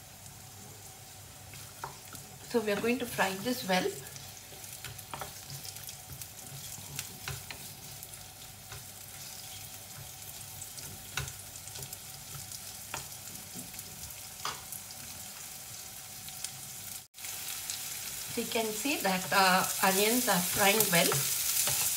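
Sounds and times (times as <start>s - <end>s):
onions sizzling in oil: 0.0s - 21.9s.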